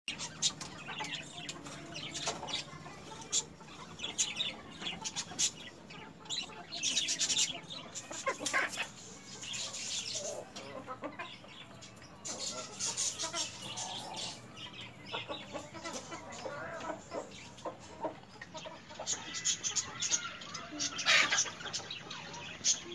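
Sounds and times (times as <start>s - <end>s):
chickens clucking: 0.1s - 22.9s.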